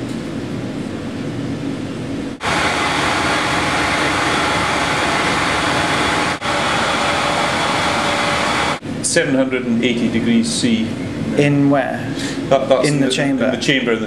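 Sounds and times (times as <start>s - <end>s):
boiler furnace rushing noise: 0.0s - 14.0s
steady machine hum: 0.0s - 14.0s.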